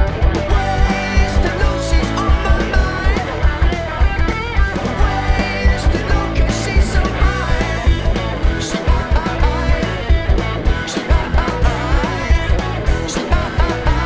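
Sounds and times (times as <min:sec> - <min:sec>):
rock band playing: 0:00.0 - 0:14.0
person singing: 0:00.5 - 0:03.8, 0:04.8 - 0:14.0.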